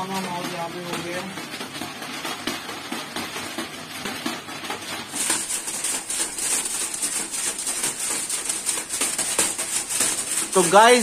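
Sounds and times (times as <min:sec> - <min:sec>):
kites flapping and rattling: 0:00.0 - 0:11.0.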